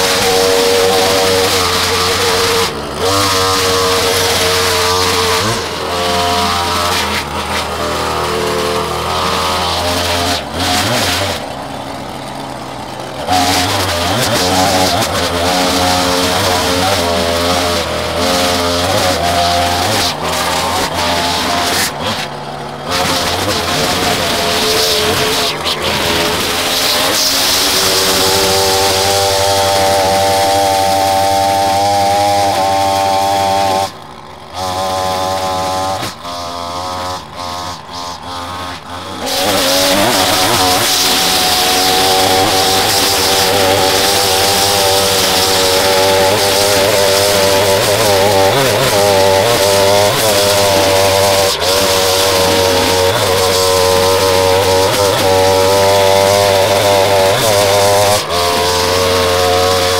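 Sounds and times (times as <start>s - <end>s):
small gasoline engine running: 0.0s - 59.9s.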